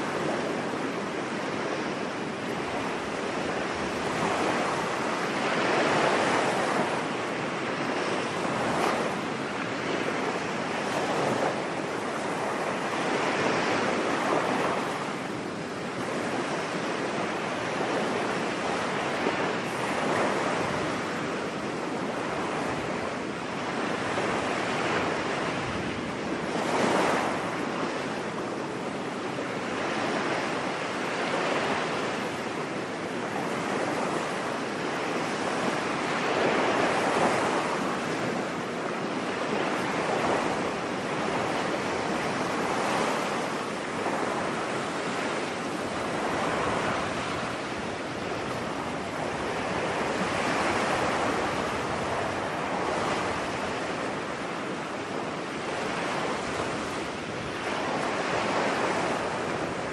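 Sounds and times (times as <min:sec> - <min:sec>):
ocean waves washing onto beach: 0:00.0 - 0:59.9.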